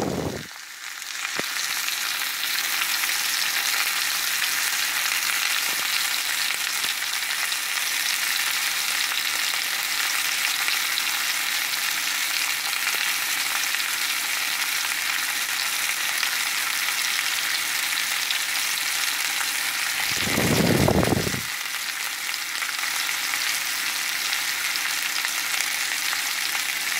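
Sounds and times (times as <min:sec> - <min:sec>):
steak sizzling in a skillet: 0:00.0 - 0:26.9.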